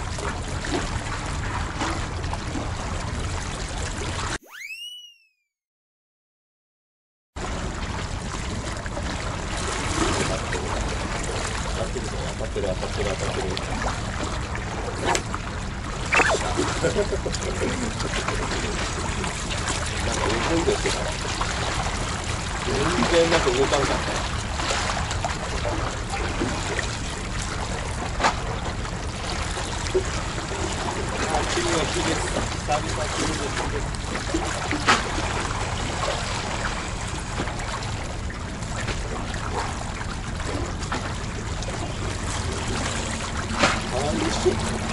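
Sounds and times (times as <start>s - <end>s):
sea water washing: 0.0s - 4.4s, 7.4s - 44.9s.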